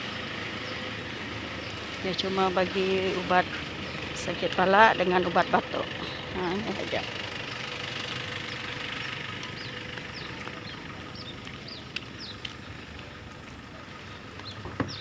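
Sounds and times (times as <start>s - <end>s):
birds chirping: 0.0s - 15.0s
vehicle engine running: 0.0s - 15.0s.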